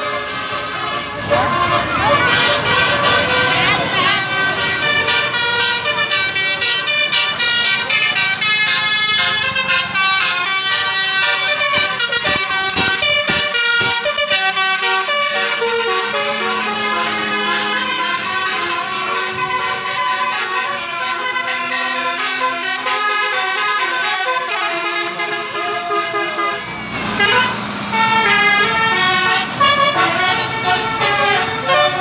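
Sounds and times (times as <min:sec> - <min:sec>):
multi-tone musical air horns: 0:00.0 - 0:32.0.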